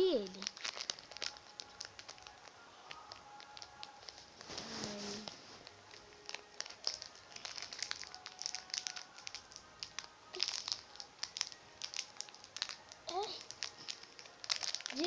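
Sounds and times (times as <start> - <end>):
plastic wrapper crinkling: 0.2 - 15.0.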